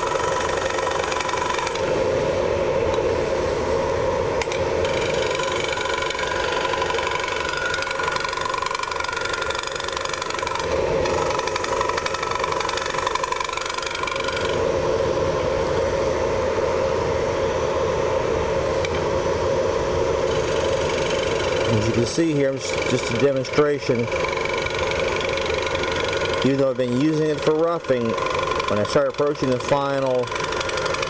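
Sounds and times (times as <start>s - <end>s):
wood lathe humming: 0.0s - 15.8s, 20.1s - 31.0s.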